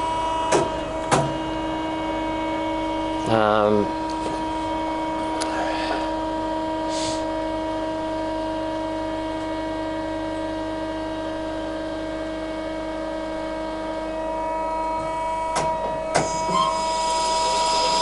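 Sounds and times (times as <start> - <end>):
bandsaw machine hum: 0.0 - 18.0.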